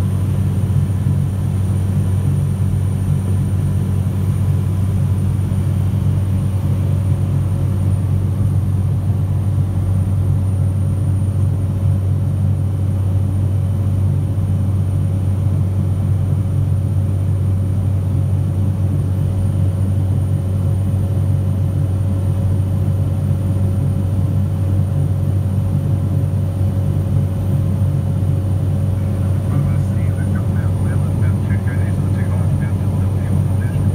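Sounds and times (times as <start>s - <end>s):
aircraft engine and propeller drone: 0.0s - 33.9s
faint steady whines: 0.0s - 33.9s.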